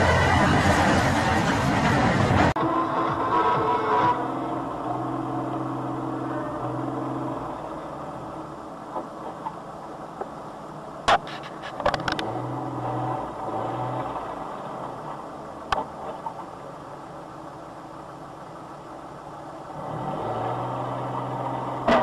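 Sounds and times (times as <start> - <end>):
vehicle engines humming: 0.0 - 22.0.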